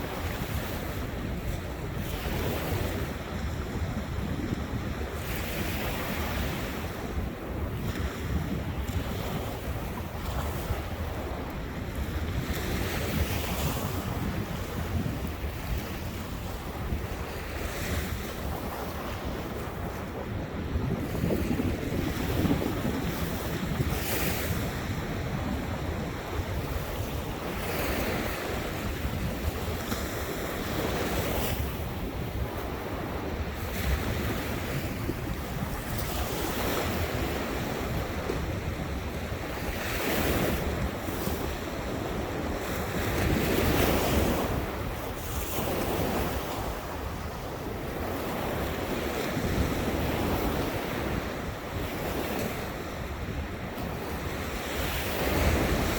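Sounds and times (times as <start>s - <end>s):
ocean surf breaking: 0.0s - 55.9s
wind buffeting microphone: 0.0s - 55.9s.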